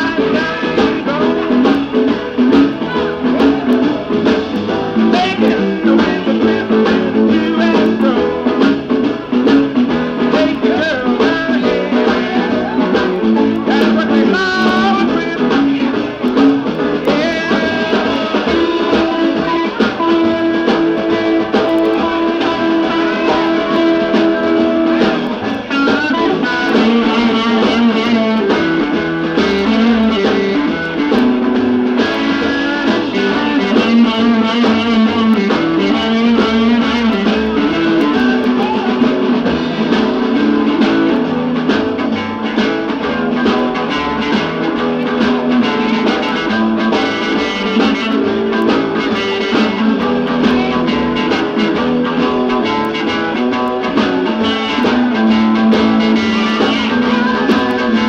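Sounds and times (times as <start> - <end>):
electric guitar: 0.0 - 58.0
rhythm and blues band playing: 0.0 - 58.0.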